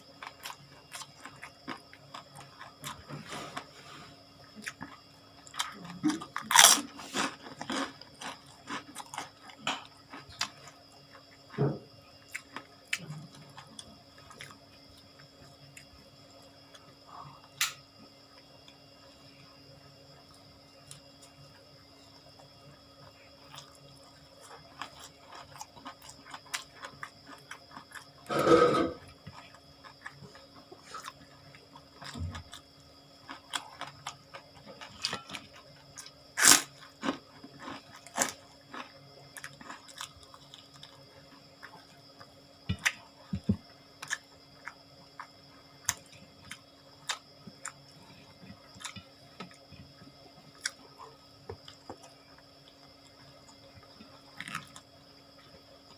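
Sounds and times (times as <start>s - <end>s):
chewing and crunching vegetables: 0.0s - 17.6s, 20.0s - 55.9s.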